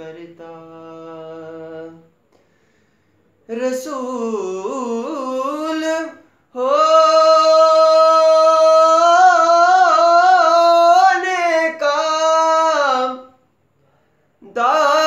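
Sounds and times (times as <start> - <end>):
man singing unaccompanied: 0.0 - 2.2, 3.4 - 13.4, 14.4 - 15.0.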